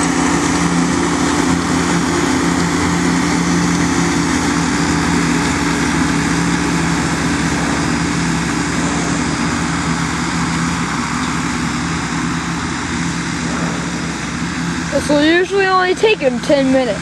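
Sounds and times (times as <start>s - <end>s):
ride-on mower engine droning: 0.0s - 17.0s.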